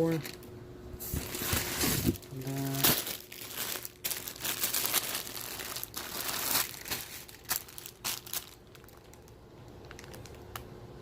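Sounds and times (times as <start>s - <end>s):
packaging crinkling: 0.0s - 10.7s.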